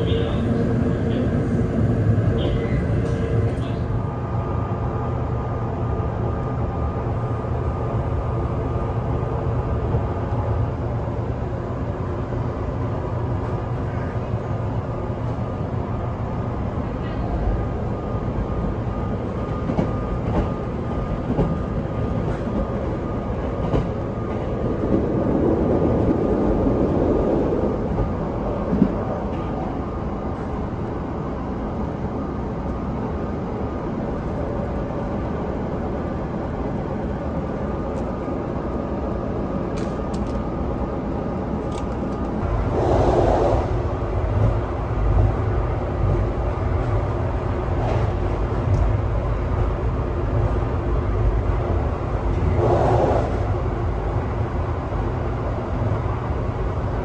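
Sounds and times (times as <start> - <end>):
train rumble inside carriage: 0.0 - 57.0.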